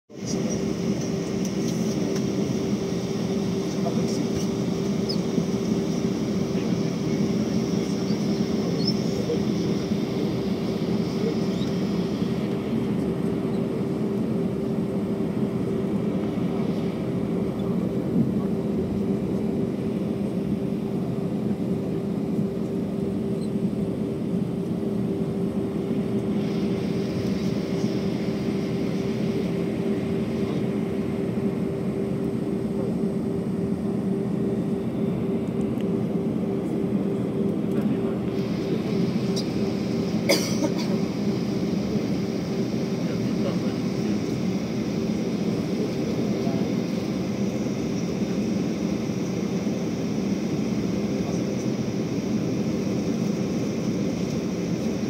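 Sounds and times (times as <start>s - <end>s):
airliner cabin drone: 0.1s - 55.0s.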